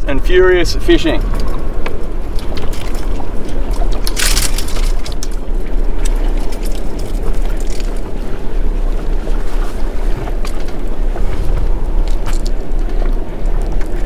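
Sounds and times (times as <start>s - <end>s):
water washing against hull: 0.0s - 14.0s
wind buffeting microphone: 0.0s - 14.0s.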